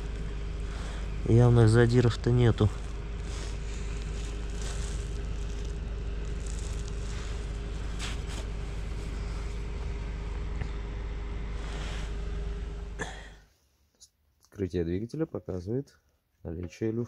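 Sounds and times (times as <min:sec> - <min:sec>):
faint constant whine: 0:00.0 - 0:17.0
low background hum and hiss: 0:00.0 - 0:17.0.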